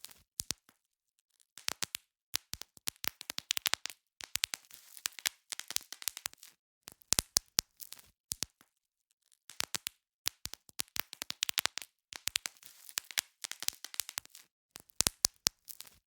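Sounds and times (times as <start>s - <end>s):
bubble wrap popping: 1.6s - 8.7s, 9.5s - 16.0s.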